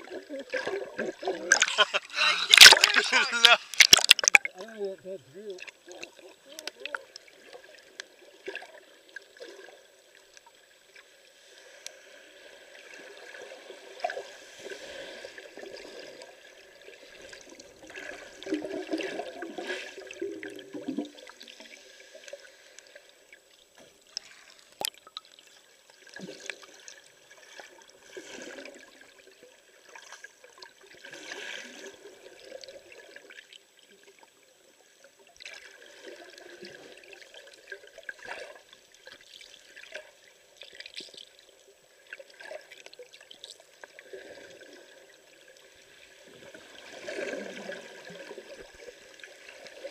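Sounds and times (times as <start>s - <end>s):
underwater sloshing and bubbling: 0.0s - 49.9s.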